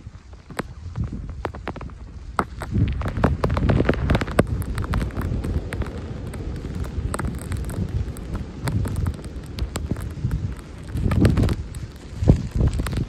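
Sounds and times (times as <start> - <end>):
sharp crackling clicks: 0.0 - 13.0
wind buffeting microphone: 0.0 - 13.0.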